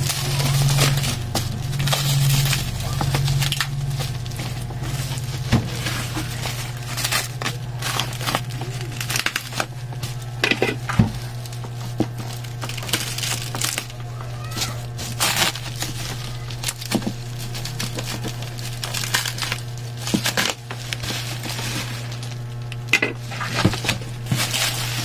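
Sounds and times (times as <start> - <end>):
plastic wrap crinkling: 0.0 - 25.0
steady low hum: 0.0 - 25.0.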